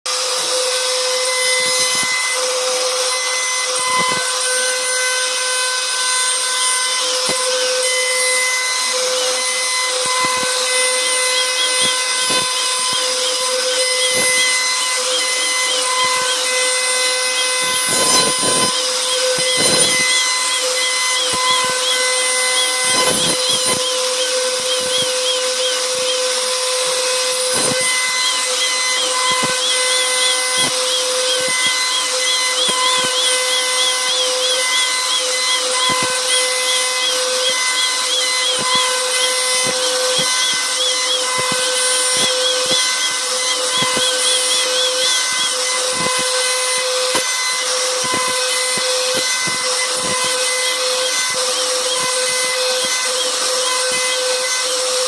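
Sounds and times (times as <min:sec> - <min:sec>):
bit rasping through wood: 0:00.1 - 0:55.0
router spindle whine: 0:00.1 - 0:55.0.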